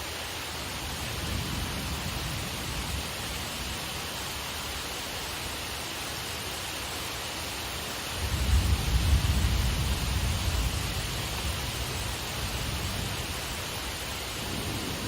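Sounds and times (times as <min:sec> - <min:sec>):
rain shower hiss: 0:00.0 - 0:15.0.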